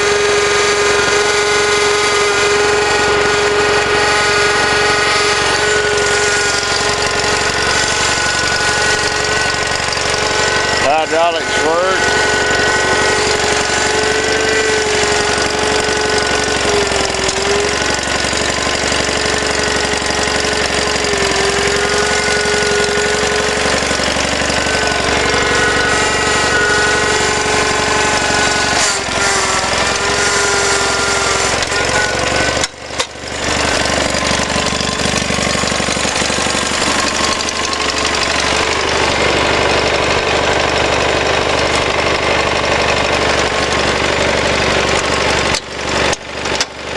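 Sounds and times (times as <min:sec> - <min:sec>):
garden tractor engine running: 0:00.0 - 0:46.9
steady whining tone: 0:00.0 - 0:46.9.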